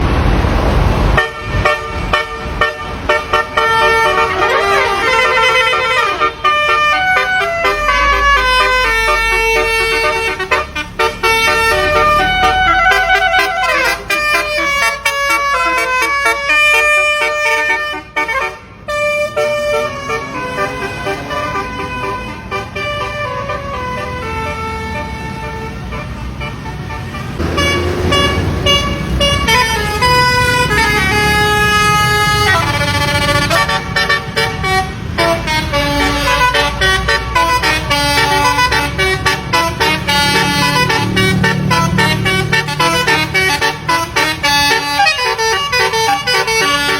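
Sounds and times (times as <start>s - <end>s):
melodic bus horn: 1.1s - 46.9s.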